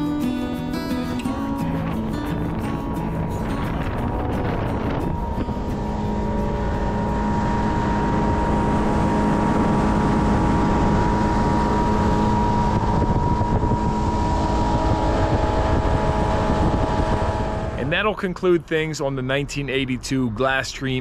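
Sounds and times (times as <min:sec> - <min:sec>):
outboard motor running: 0:00.0 - 0:18.2
wind and water rushing: 0:01.2 - 0:18.6.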